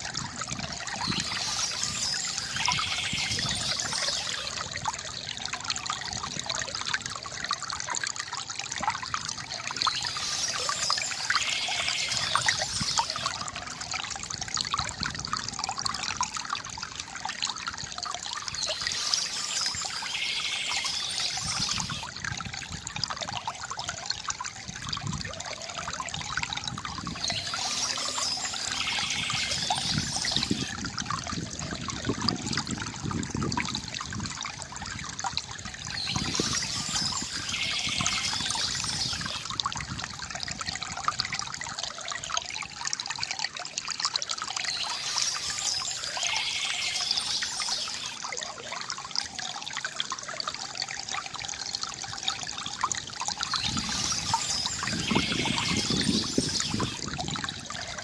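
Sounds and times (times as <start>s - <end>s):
water trickling from fountain spout: 0.0s - 58.0s.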